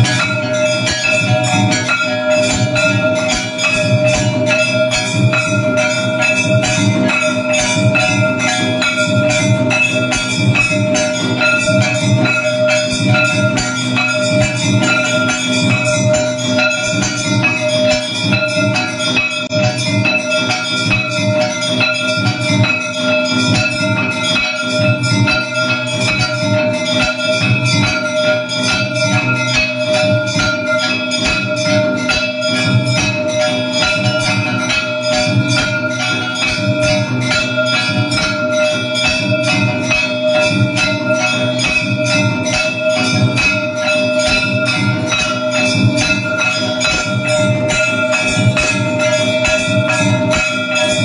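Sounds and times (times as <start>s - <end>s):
drumming: 0.0s - 51.0s
temple bells clanging: 0.0s - 51.0s.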